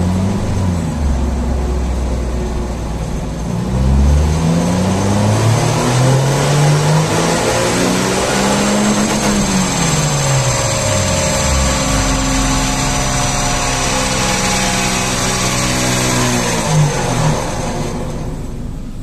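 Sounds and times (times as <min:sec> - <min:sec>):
car engine idling and blipping: 0:00.0 - 0:19.0.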